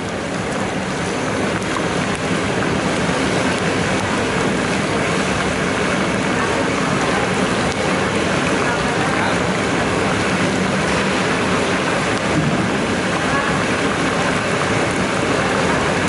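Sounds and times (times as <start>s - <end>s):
okra deep-frying in oil: 0.0s - 16.0s.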